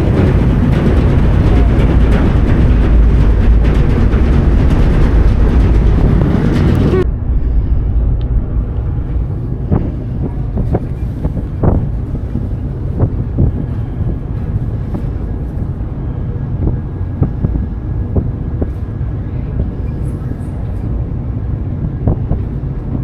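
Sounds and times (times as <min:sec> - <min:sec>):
ferry engine rumble: 0:00.0 - 0:23.0
wind on microphone: 0:00.0 - 0:23.0.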